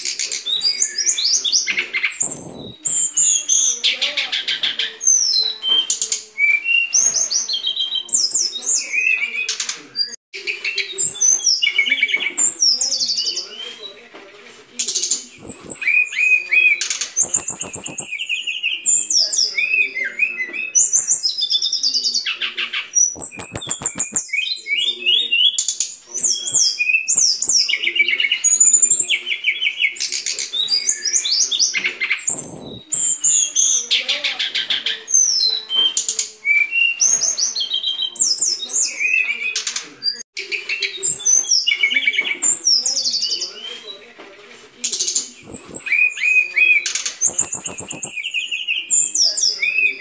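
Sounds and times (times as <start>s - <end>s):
bird singing high chirps: 0.0s - 14.0s, 14.8s - 44.0s, 44.8s - 50.0s.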